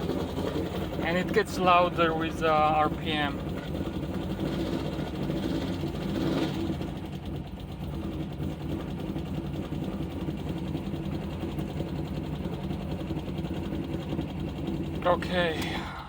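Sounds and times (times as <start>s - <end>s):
car engine revving: 0.0s - 16.0s
engine ticking: 0.0s - 16.0s.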